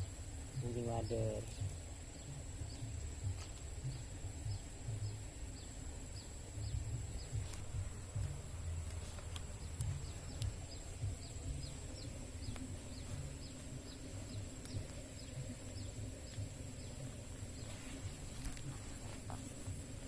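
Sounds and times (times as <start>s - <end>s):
bird chirping: 0.0s - 20.0s
steady high whine: 0.0s - 20.0s
low rumble: 1.4s - 20.0s.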